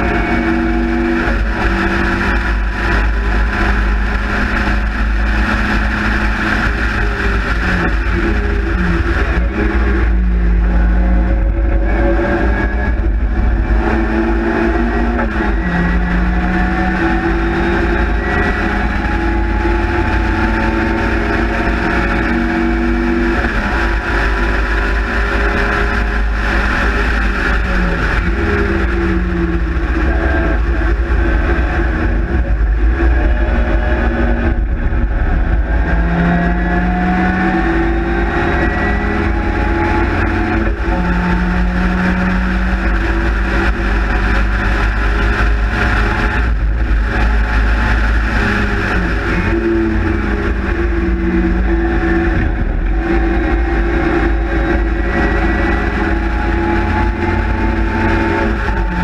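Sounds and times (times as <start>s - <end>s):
race car engine revving: 0.0s - 59.0s
wind rumble on microphone: 0.0s - 59.0s.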